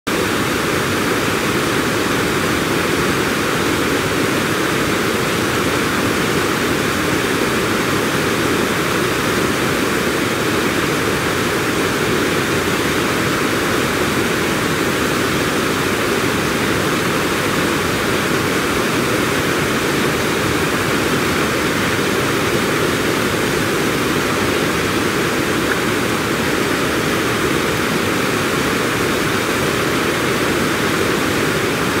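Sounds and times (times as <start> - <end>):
water rushing over a spillway: 0.1 - 32.0.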